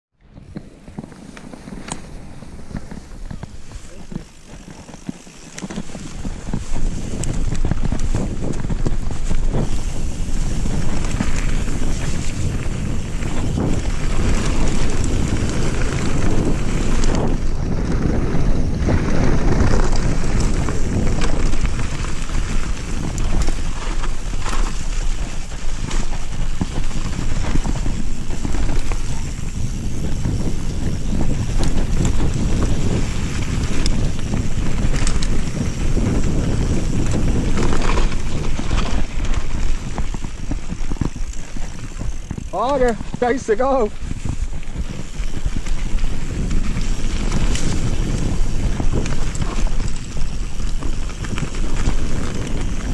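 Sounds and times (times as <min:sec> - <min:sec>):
bike tyres rumbling on gravel: 0:00.1 - 0:52.9
bike clicks and rattles: 0:00.2 - 0:52.9
wind buffeting microphone: 0:00.2 - 0:52.9.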